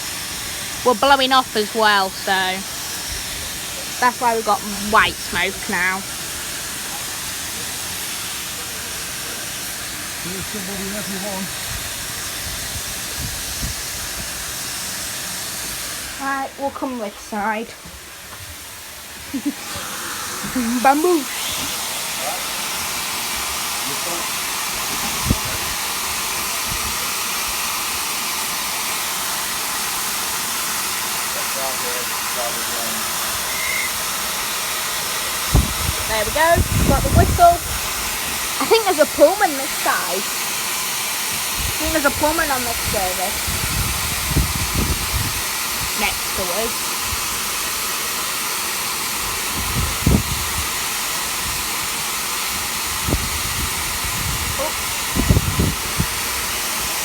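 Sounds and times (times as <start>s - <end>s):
loud hiss of escaping steam: 0.0s - 57.0s.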